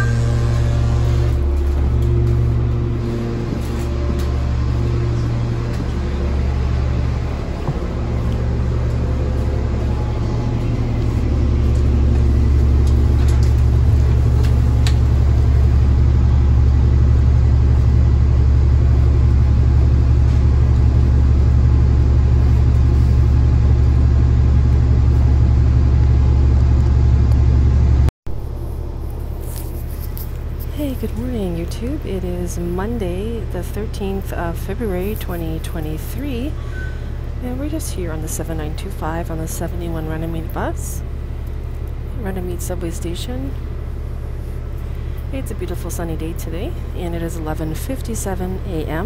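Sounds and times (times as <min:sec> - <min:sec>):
bus engine idling: 0:00.0 - 0:49.0.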